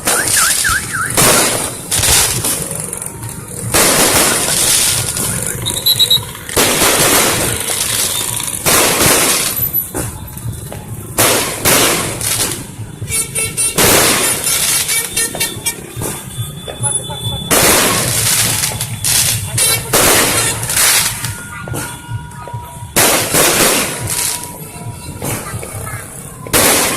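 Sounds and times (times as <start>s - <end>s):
fireworks bursting: 0.0s - 26.9s
high whistling fireworks: 0.0s - 26.9s.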